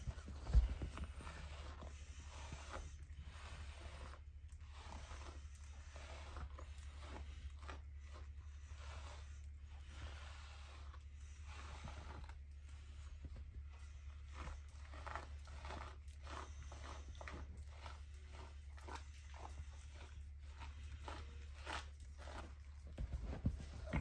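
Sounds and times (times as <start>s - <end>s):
dog scratching on blanket: 0.0s - 24.0s.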